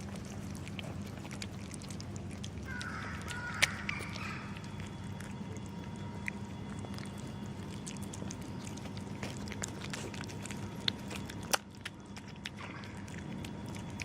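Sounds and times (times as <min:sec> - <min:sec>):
cat chewing and crunching food: 0:00.0 - 0:14.0
steady low hum: 0:00.0 - 0:14.0.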